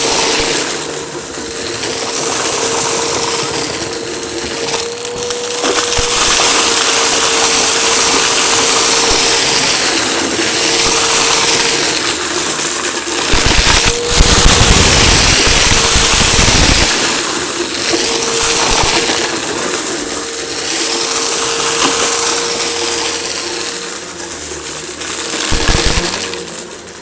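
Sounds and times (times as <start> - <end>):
debris crunching in vacuum: 0.0 - 27.0
vacuum cleaner running: 0.0 - 27.0.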